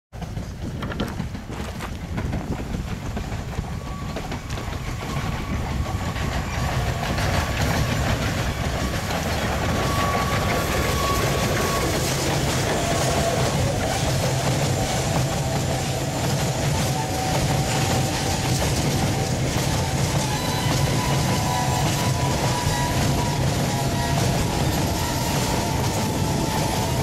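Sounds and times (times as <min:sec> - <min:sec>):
steam locomotive: 0:00.1 - 0:27.0
wheels clacking over rail joints: 0:00.2 - 0:27.0.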